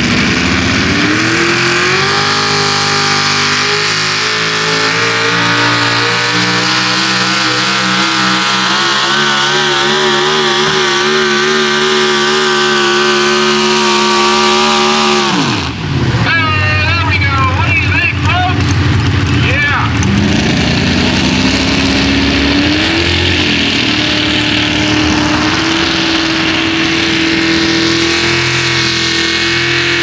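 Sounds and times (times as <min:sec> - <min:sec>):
truck engine at full throttle: 0:00.0 - 0:30.0.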